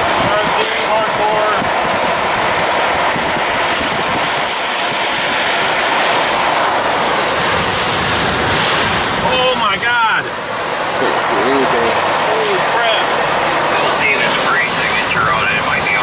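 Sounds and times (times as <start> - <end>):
heavy rain and wind on car: 0.0 - 16.0
tyres on wet road: 0.0 - 16.0.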